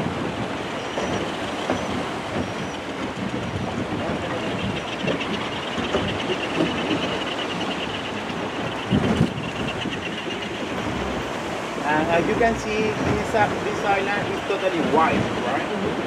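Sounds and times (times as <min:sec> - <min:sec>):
boat engine running: 0:00.0 - 0:16.0
water washing along hull: 0:00.0 - 0:16.0
wind on microphone: 0:00.0 - 0:16.0.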